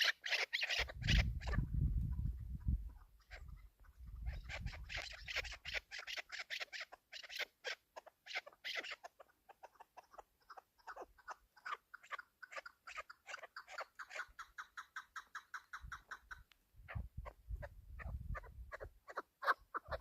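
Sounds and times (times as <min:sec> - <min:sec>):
partridge clucking calls: 0:00.0 - 0:20.0.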